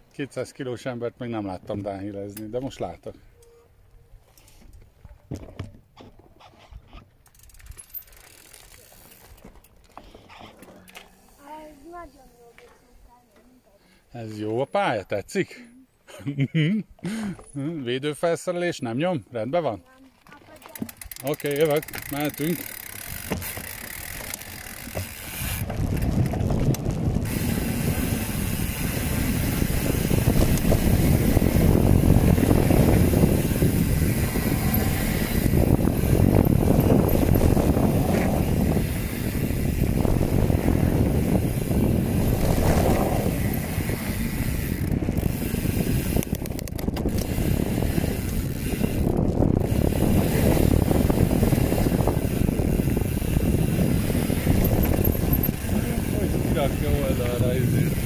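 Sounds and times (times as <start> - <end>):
mountain bike rattling over ground: 4.3 - 12.8, 19.8 - 58.0.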